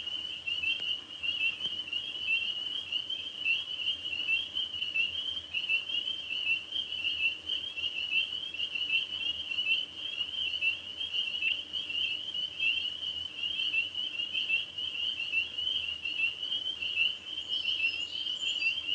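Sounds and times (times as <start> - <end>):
tree frogs trilling: 0.0 - 18.9.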